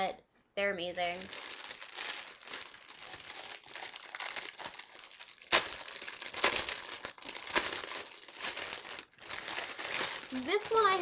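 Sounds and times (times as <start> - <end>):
packaging crinkling and rustling: 1.2 - 11.0.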